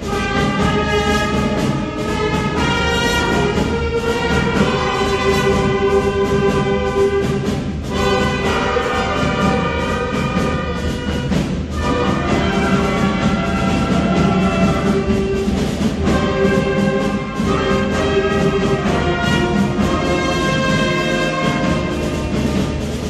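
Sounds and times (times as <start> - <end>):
wind band playing chords: 0.0 - 23.0.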